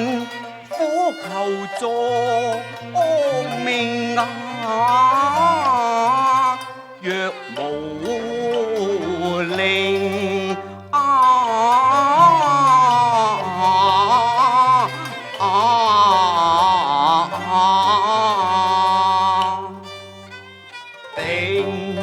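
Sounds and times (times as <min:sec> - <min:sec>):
opera singing with vibrato: 0:00.0 - 0:19.9, 0:21.1 - 0:22.0
opera instrumental ensemble: 0:00.0 - 0:22.0.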